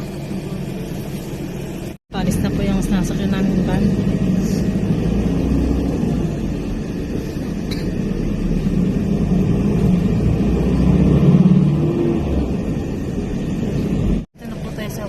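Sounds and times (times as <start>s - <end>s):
road rumble: 0.0s - 15.0s
van engine hum: 0.0s - 15.0s.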